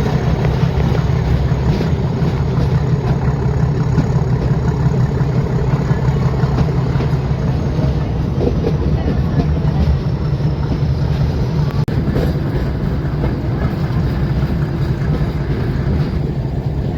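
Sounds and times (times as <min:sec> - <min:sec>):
train low rumble: 0:00.0 - 0:16.9.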